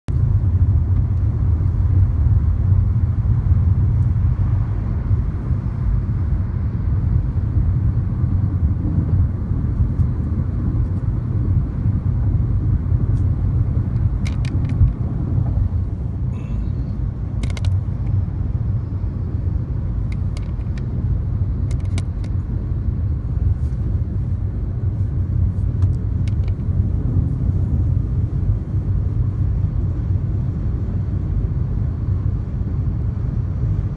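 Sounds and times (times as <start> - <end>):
tyre and road noise: 0.1 - 33.9.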